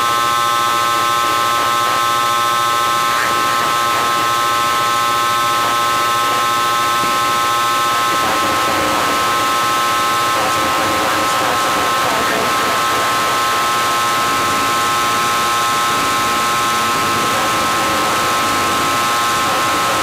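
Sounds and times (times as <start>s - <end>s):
electronic noise drone: 0.0s - 20.0s.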